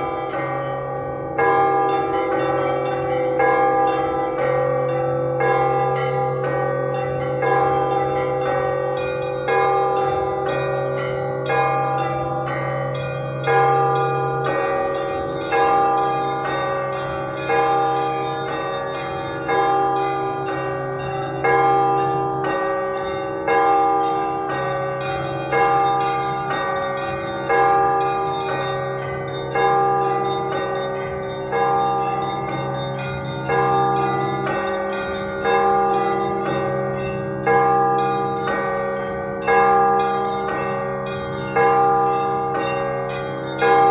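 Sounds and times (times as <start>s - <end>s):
heavy bell struck: 0.0s - 43.9s
smaller bells ringing quickly: 0.0s - 43.9s.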